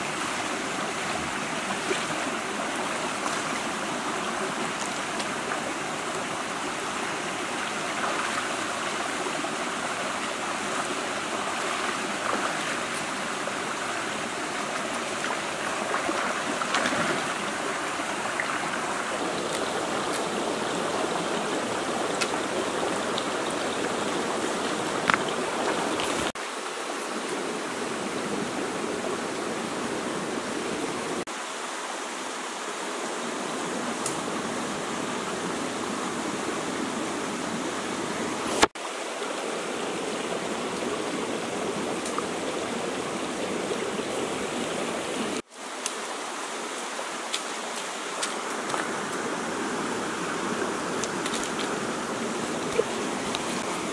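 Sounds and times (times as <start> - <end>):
rocky stream running: 0.0 - 53.9.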